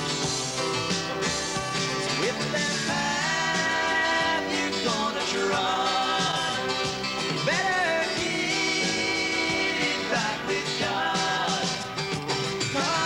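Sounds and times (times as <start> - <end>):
country song: 0.0 - 13.0.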